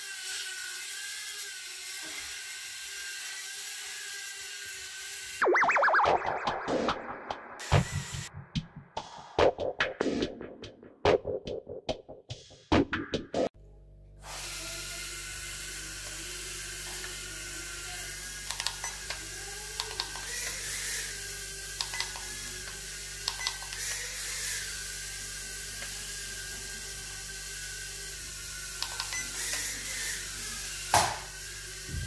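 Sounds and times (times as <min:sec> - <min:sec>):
drone motors whining: 0:00.0 - 0:08.4, 0:14.3 - 0:32.0.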